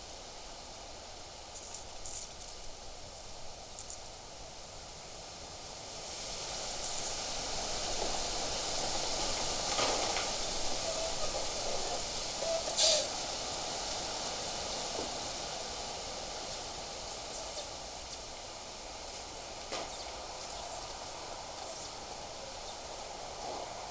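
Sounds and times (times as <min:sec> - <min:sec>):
wind blowing through trees: 0:04.6 - 0:23.9.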